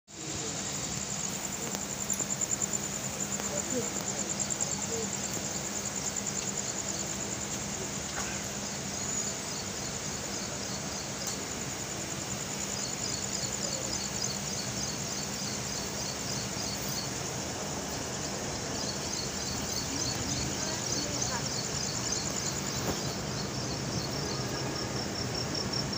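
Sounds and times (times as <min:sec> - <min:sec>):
insects trilling: 0:00.1 - 0:25.9
train moving slowly: 0:00.1 - 0:25.9.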